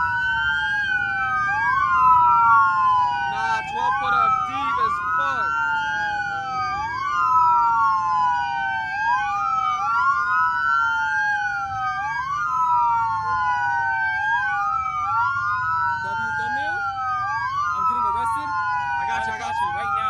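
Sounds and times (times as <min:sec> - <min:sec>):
police sirens wailing: 0:00.0 - 0:20.0.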